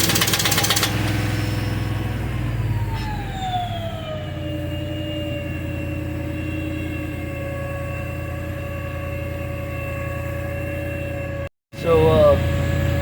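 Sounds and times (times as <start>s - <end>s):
low engine rumble: 0.0s - 13.0s
whining tone sliding down: 0.9s - 13.0s.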